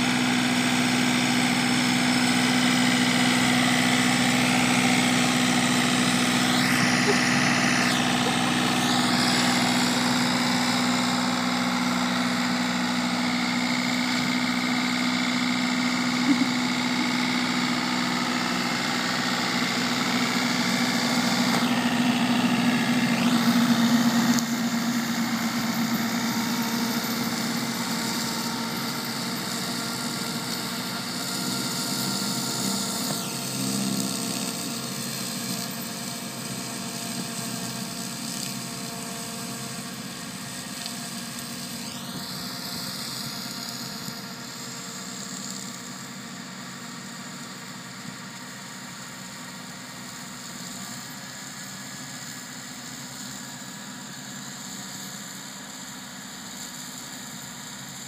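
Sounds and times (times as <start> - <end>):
high whine: 0.0 - 46.8
tractor diesel engine running: 0.0 - 58.0.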